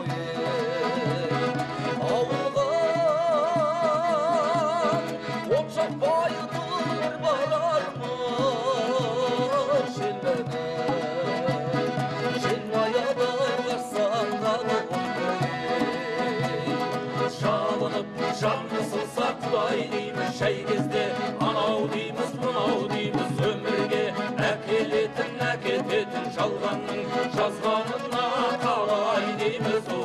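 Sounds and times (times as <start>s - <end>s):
accordion-like accompaniment: 0.0s - 30.0s
folk melody with vibrato: 0.0s - 30.0s
strummed beat: 0.0s - 30.0s.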